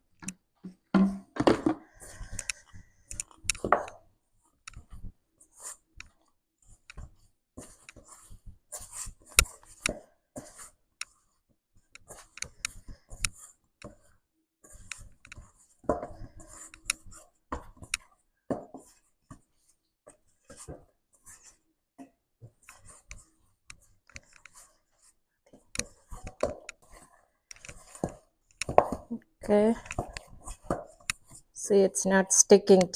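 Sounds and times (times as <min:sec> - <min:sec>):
hands kneading dough: 0:01.9 - 0:31.6.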